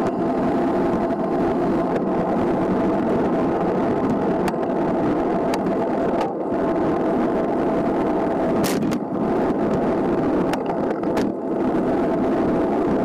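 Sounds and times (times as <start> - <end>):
tyres rolling on asphalt: 0.0 - 13.0
wind rushing over microphone: 0.0 - 13.0.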